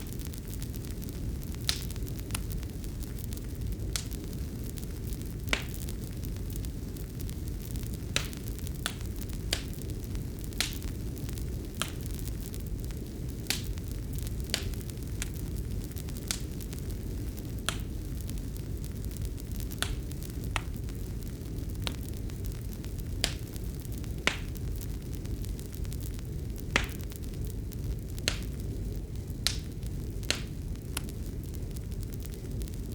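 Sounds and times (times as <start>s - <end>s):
fireplace fire crackling: 0.0s - 32.9s.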